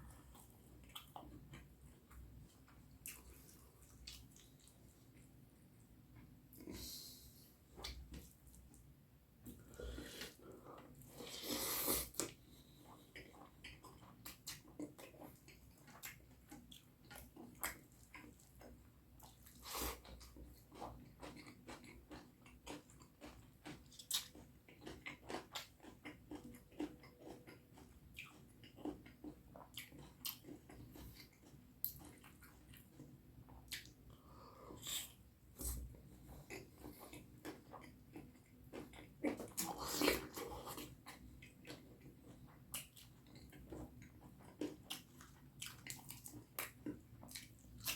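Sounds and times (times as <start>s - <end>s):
close chewing mouth sounds: 0.0s - 5.4s, 12.0s - 47.9s.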